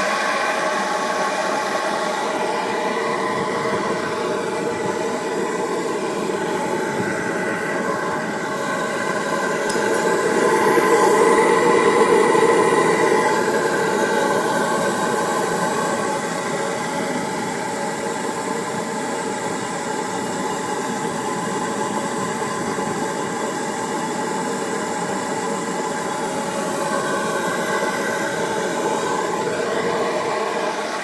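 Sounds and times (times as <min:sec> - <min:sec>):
oil burner rushing: 0:00.0 - 0:31.0.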